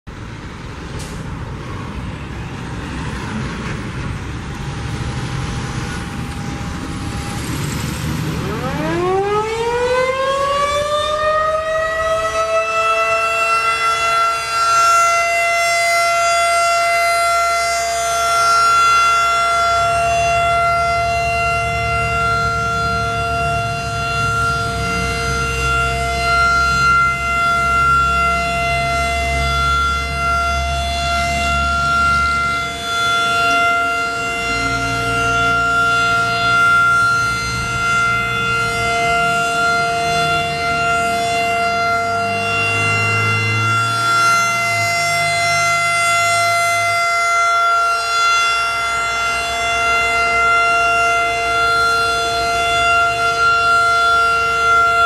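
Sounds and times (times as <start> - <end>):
steady background noise: 0.1 - 55.0
warning siren wailing: 0.1 - 55.0.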